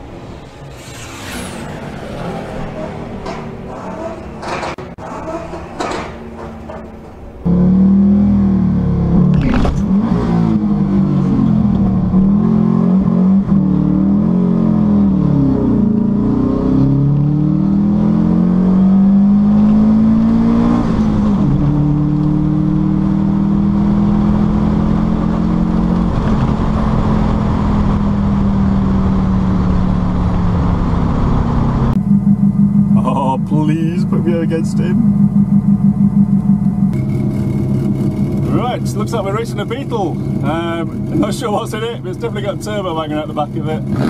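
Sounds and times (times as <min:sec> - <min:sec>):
engine revving through gears: 0:00.0 - 0:05.5, 0:07.4 - 0:44.0.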